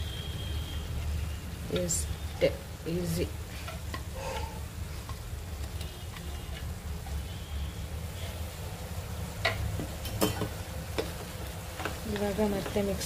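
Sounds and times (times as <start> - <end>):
meat frying in a pan: 0.0 - 13.0.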